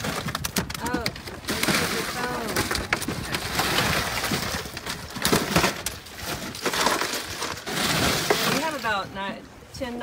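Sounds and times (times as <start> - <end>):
ice and fish clinking in a box: 0.0 - 9.3.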